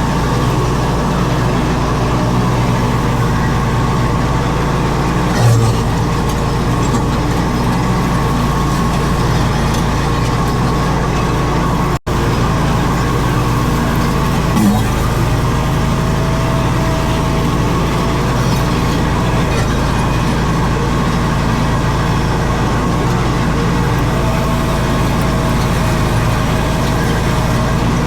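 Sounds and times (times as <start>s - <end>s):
riding mower engine running: 0.0s - 28.0s.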